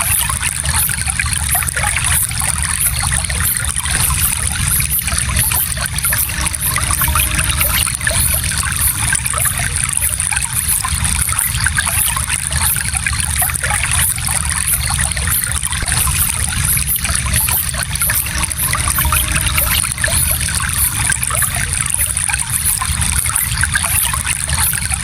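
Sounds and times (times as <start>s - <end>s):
stream trickling: 0.0s - 25.0s.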